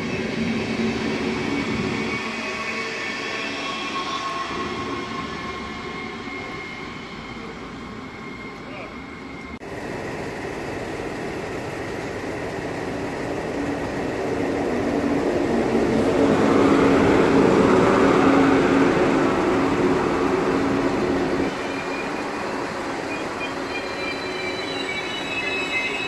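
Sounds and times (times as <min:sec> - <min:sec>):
high-speed train passing: 0:00.0 - 0:26.0.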